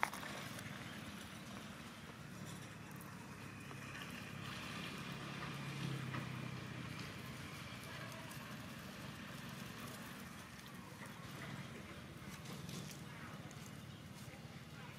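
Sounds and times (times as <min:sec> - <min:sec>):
outdoor background noise: 0:00.0 - 0:14.9
vehicle engine passing: 0:00.0 - 0:14.9.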